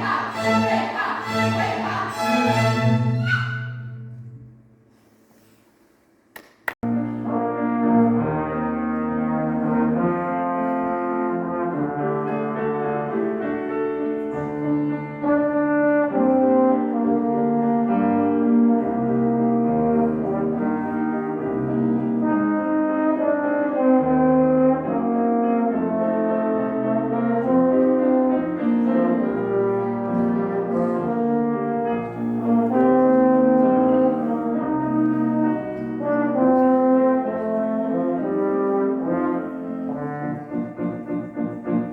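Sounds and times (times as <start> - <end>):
brass ensemble playing slow chords: 0.0 - 3.3, 6.9 - 13.6, 14.2 - 41.0.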